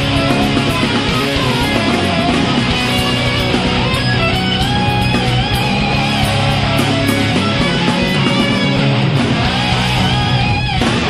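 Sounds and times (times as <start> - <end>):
distorted guitar playing: 0.0 - 11.0.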